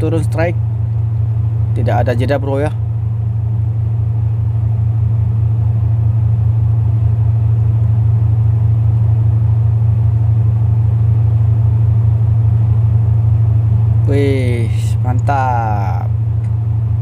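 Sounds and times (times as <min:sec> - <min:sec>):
ship machinery droning: 0:00.0 - 0:17.0.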